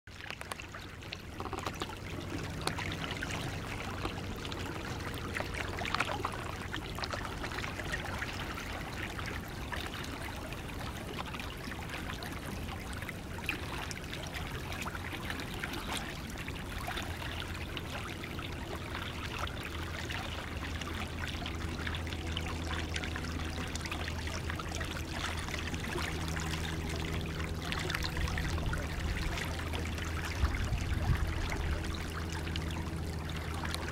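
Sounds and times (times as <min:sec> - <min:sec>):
creek water trickling: 0:00.1 - 0:33.9
small water splashes: 0:00.1 - 0:33.9.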